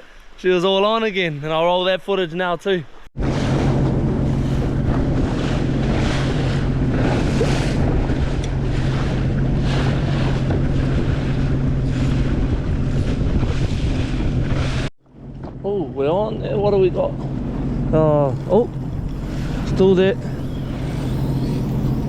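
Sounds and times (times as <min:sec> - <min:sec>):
jet ski engine humming: 0:03.2 - 0:22.0
wind buffeting microphone: 0:03.2 - 0:22.0.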